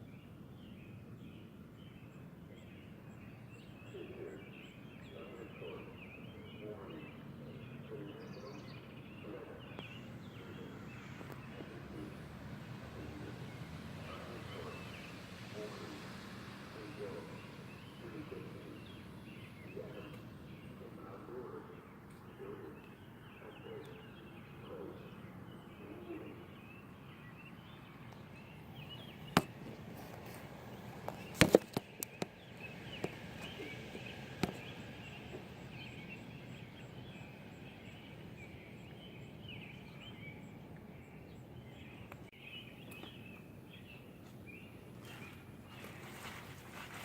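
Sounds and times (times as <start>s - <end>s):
birds chirping faintly: 0.0s - 47.0s.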